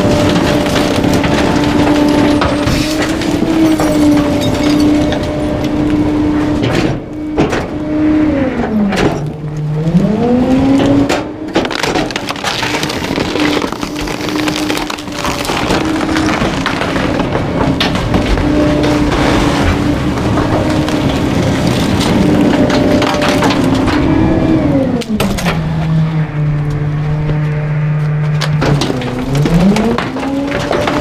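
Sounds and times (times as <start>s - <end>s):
debris cracking and crunching: 0.0s - 7.9s, 8.5s - 31.0s
garbage truck compactor whine: 0.0s - 31.0s.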